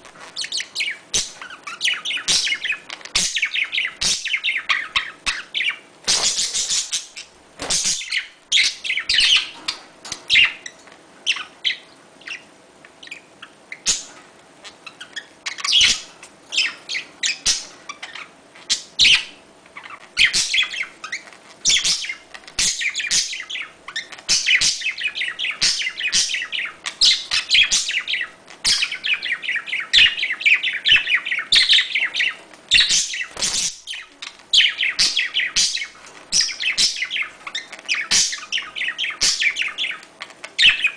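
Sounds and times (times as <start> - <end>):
budgerigars chattering: 0.4 - 40.9.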